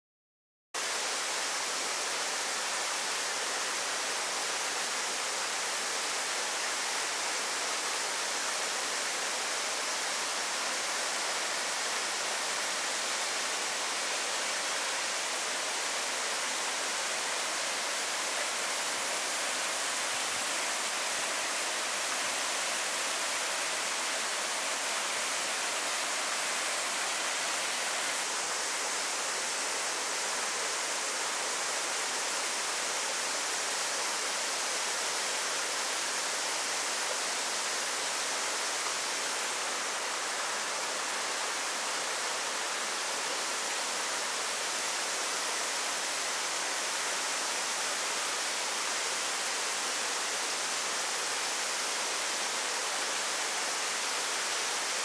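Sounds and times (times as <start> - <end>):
rushing water in gorge: 0.8 - 55.0.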